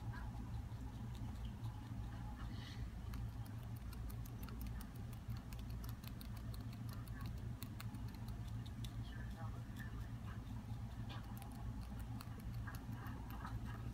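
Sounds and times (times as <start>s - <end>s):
rat gnawing crunchy stalk: 0.0s - 13.9s
steady low hum: 0.0s - 13.9s.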